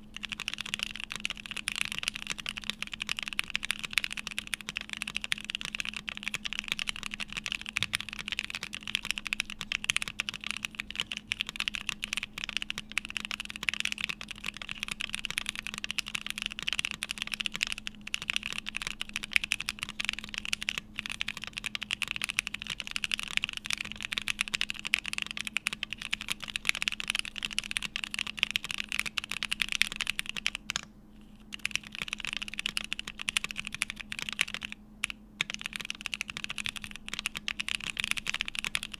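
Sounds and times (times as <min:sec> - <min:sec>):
mechanical keyboard typing clacks: 0:00.0 - 0:30.9, 0:31.5 - 0:38.9.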